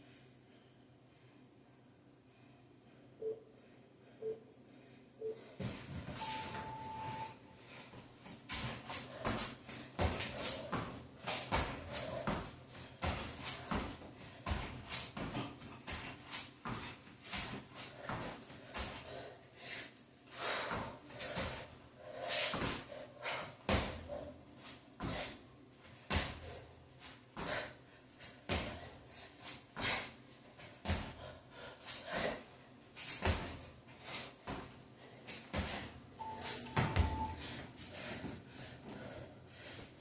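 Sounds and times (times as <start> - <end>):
hard breathing: 2.3 - 25.5, 26.1 - 32.7, 33.4 - 40.0.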